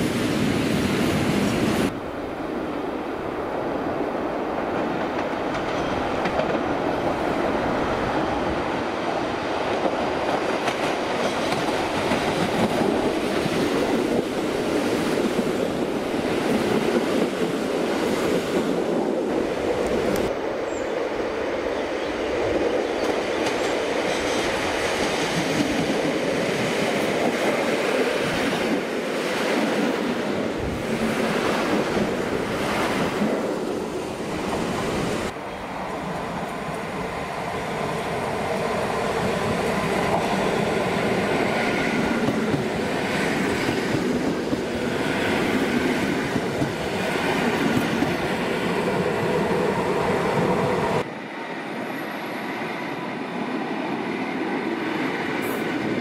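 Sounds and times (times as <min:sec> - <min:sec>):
train wheels rumbling on rails: 0:04.3 - 0:56.0.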